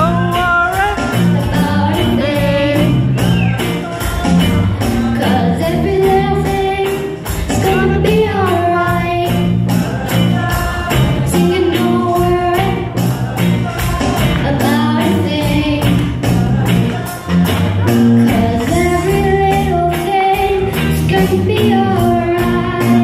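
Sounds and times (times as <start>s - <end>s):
woman singing: 0.0s - 13.0s, 13.6s - 23.0s
band playing a steady beat: 0.0s - 23.0s.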